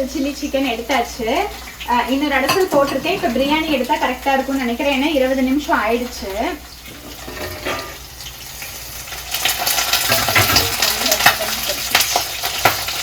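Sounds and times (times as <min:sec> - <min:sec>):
chicken deep-frying in hot oil: 0:00.0 - 0:13.0.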